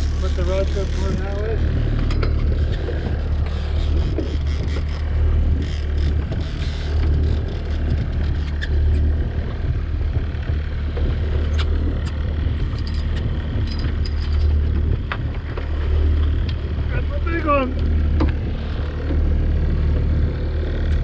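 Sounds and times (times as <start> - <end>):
gear handling clicks and knocks: 0.0 - 16.7, 17.8 - 19.3
boat engine droning: 0.0 - 21.0.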